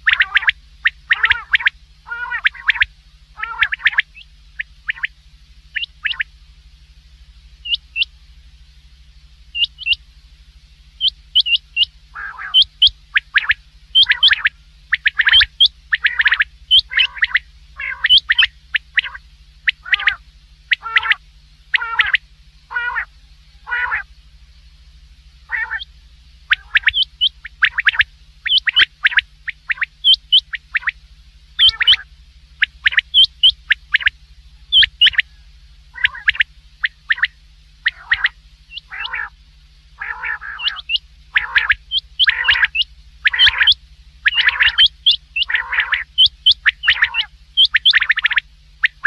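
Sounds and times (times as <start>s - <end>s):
quail calling: 0.0s - 6.3s, 7.6s - 8.2s, 9.5s - 10.0s, 11.0s - 24.2s, 25.4s - 31.0s, 31.6s - 39.4s, 40.0s - 49.0s
steady low hum: 0.0s - 49.0s.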